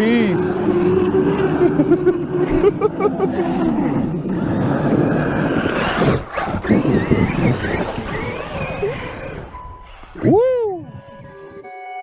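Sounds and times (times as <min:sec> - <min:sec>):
rc truck drive noise: 0:00.0 - 0:11.6
electric motor whine: 0:00.0 - 0:11.8.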